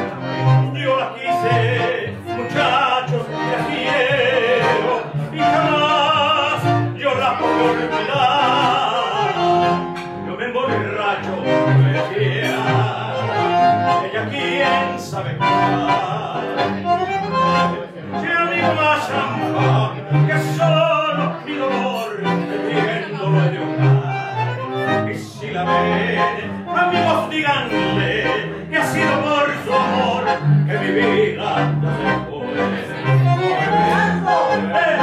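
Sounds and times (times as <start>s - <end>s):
bandoneon: 0.0s - 35.0s
double bass low notes: 0.0s - 35.0s
man singing with vibrato: 0.0s - 35.0s.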